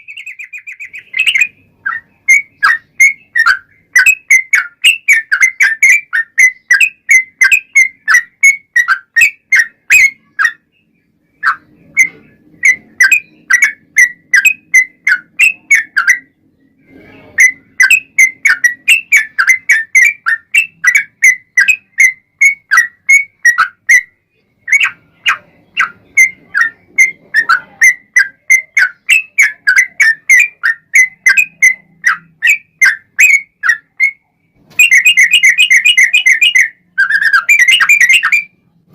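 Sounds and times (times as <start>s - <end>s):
bulbul singing loud whistled notes: 0.0s - 38.6s.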